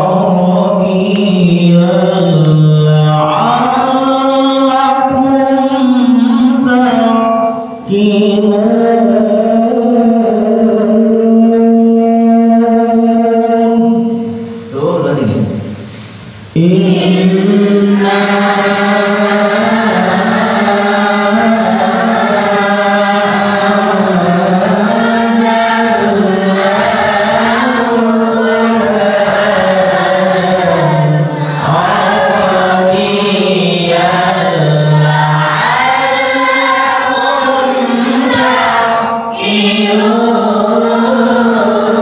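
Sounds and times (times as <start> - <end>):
group chanting a recitation: 0.0 - 42.0.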